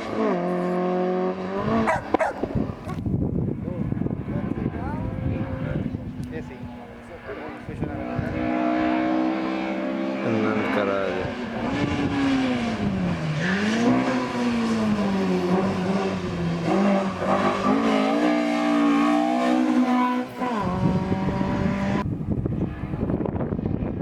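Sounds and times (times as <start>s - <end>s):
race car engine revving: 0.0s - 23.3s.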